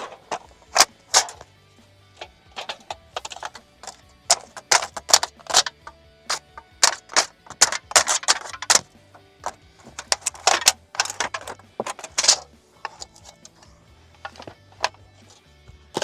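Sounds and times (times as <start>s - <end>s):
tools tapping on metal roofing: 0.0s - 1.4s, 2.2s - 15.4s.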